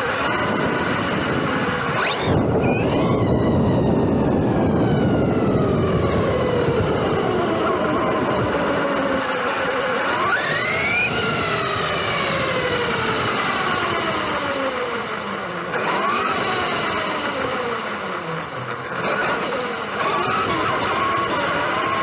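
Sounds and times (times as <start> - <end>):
electric toy truck motor whining: 0.0 - 22.0.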